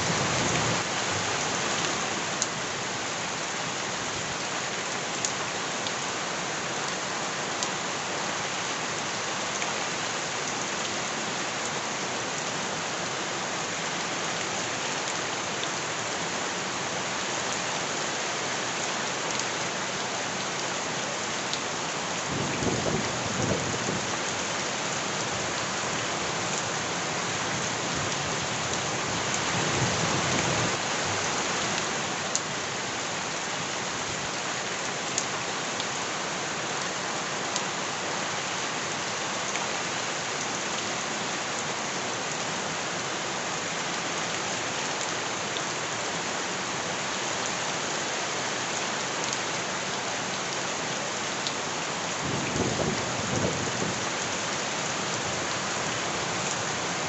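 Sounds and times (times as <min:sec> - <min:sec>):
rain on surfaces: 0:00.0 - 0:57.0.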